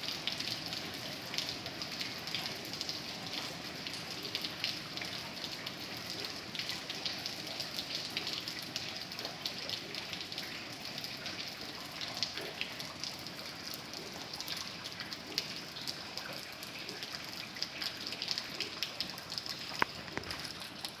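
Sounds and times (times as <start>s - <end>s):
rain falling: 0.0s - 21.0s
raindrops ticking on a surface: 0.0s - 21.0s.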